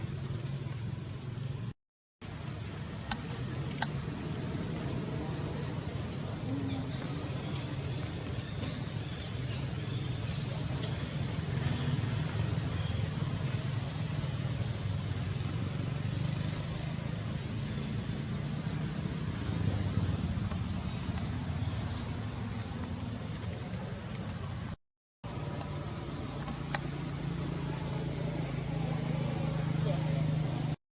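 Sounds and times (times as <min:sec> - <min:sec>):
traffic rumble: 0:00.0 - 0:30.8.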